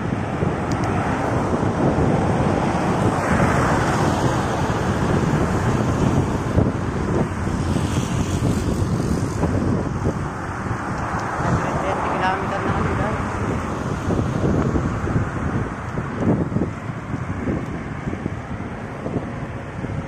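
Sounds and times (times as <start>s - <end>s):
road and traffic noise: 0.0s - 20.0s
wind rushing over microphone: 0.0s - 20.0s.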